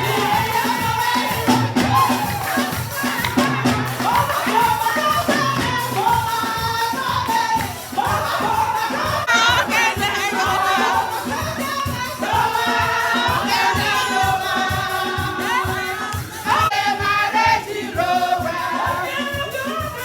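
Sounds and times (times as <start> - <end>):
band accompaniment: 0.0 - 20.0
steady drum beat: 0.0 - 20.0
voices singing together: 0.0 - 20.0.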